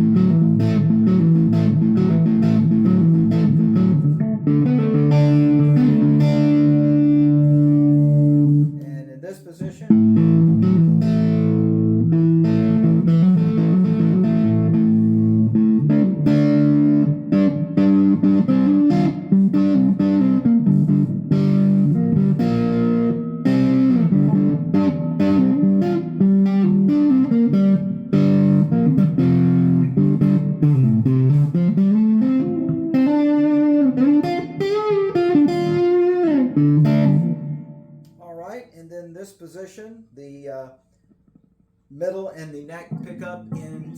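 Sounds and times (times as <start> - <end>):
distorted electric guitar: 0.0 - 9.0, 9.6 - 38.2, 42.9 - 43.9.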